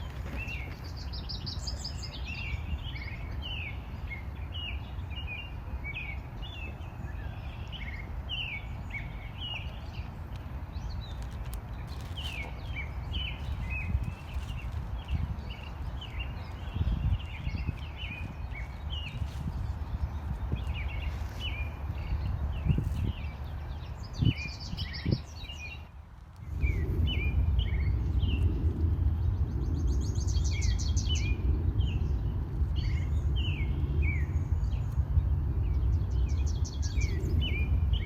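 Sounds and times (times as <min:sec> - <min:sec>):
songbirds chirping: 0:00.0 - 0:38.0
steady low rumble: 0:00.0 - 0:38.0.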